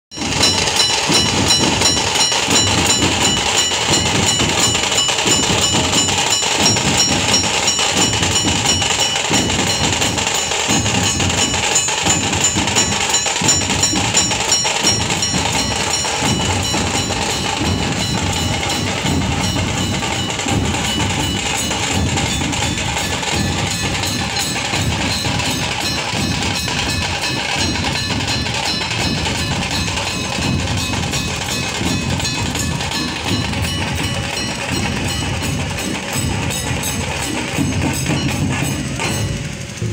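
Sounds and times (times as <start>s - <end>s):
barrel drums beaten: 0.1s - 39.9s
hand cymbals ringing: 0.1s - 39.9s.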